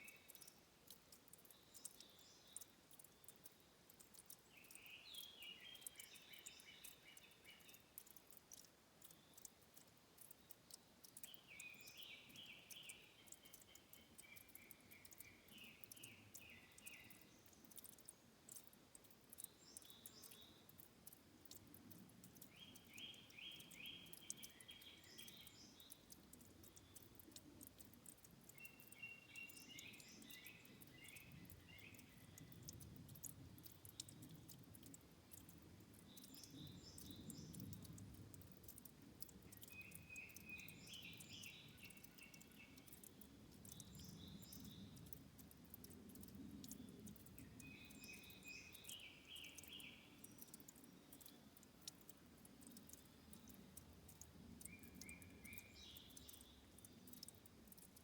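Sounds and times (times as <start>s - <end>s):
water trickling and dripping: 0.0s - 58.0s.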